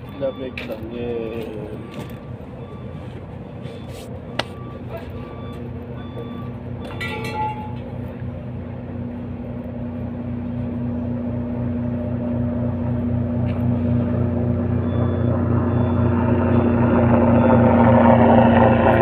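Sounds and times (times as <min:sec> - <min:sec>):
roller engine droning: 0:00.0 - 0:19.0.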